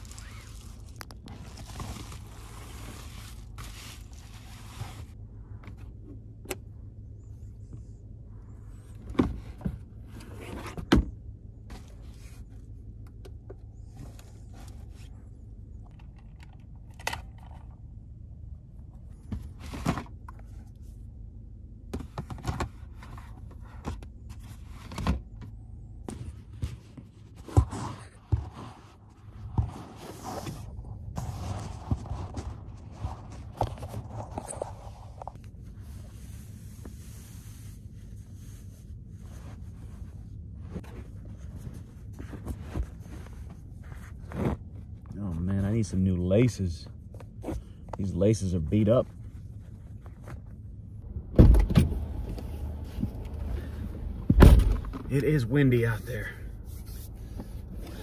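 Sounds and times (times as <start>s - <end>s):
steady low rumble: 0.0s - 10.4s, 11.1s - 22.0s, 29.1s - 58.0s
items rustling in a car: 0.0s - 58.0s.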